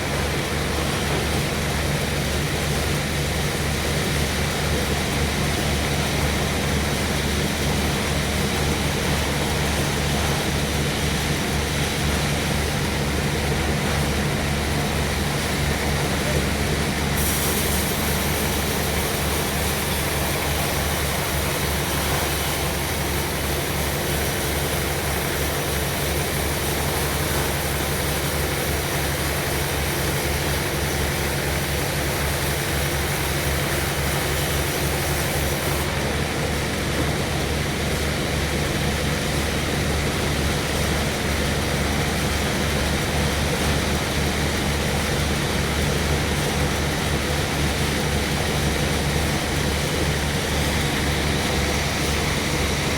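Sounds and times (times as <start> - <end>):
sawmill machinery throbbing: 0.0 - 52.9.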